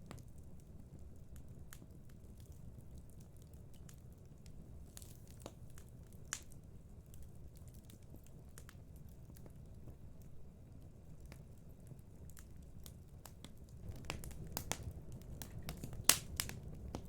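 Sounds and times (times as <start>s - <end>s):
low rumble of fire: 0.0s - 17.0s
wood fire crackling: 0.0s - 17.0s.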